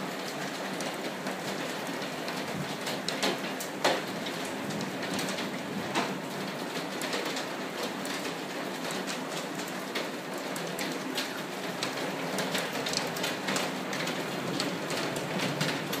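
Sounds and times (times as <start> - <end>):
rain on wooden deck: 0.0 - 16.0
raindrops tapping close by: 0.1 - 16.0.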